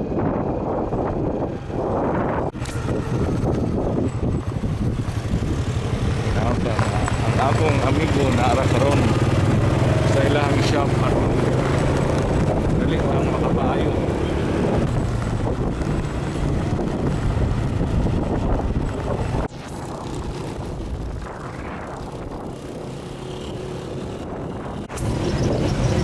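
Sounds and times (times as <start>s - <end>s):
wind rumbling on microphone: 0.0s - 26.0s
motorcycle engine running: 0.6s - 26.0s.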